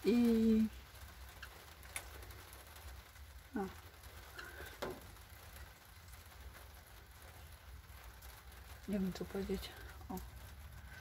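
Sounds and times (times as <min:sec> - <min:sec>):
rain patter: 0:00.0 - 0:11.0.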